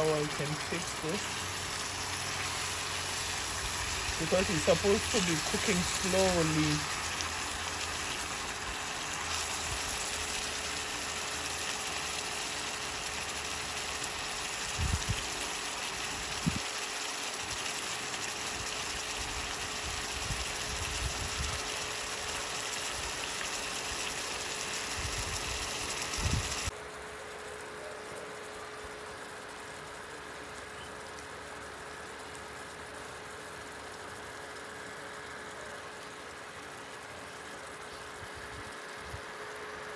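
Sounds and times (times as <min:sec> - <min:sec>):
faint steady hum: 0:00.0 - 0:39.9
stew sizzling and bubbling: 0:00.0 - 0:39.9.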